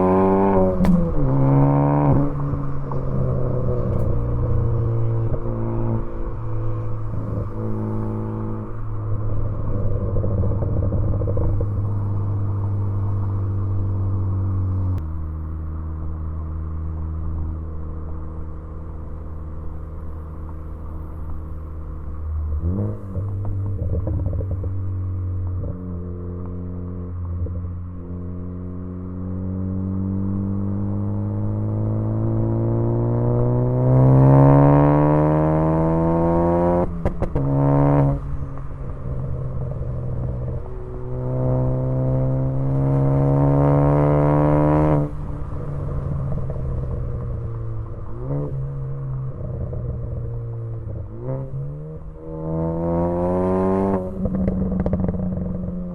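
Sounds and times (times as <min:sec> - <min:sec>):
car engine droning exhaust: 0:00.0 - 0:55.9.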